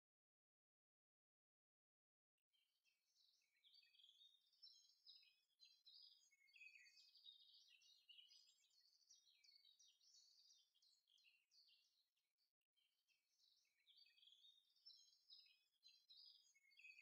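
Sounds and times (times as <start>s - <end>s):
small birds twittering: 2.6s - 17.0s.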